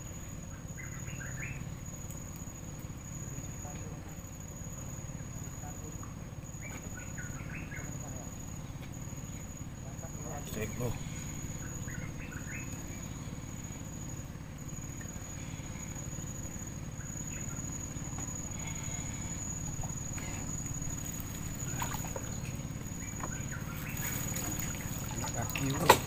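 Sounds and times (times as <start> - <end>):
high insect drone: 0.0 - 26.0
low background rumble: 0.0 - 26.0.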